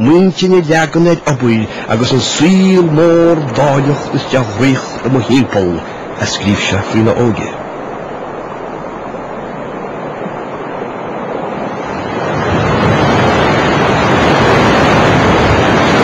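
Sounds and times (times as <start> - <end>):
sea surf washing: 0.0 - 16.0
waves breaking against cliffs: 0.0 - 16.0.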